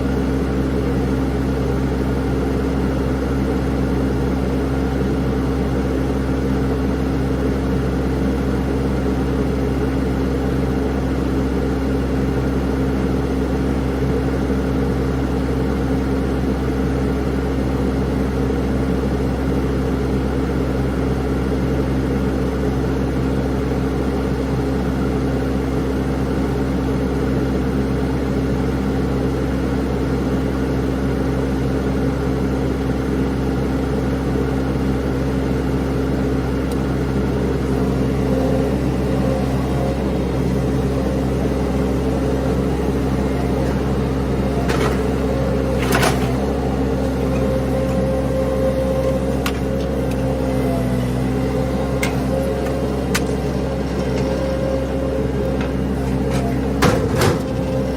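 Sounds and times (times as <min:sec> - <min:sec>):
engine running steadily: 0:00.0 - 0:57.9.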